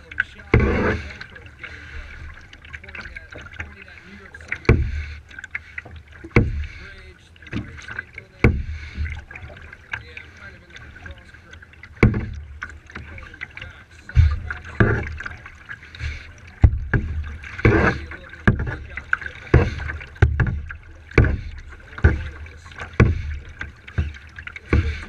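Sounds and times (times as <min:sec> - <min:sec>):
paddle splashing in water: 0:00.0 - 0:25.0.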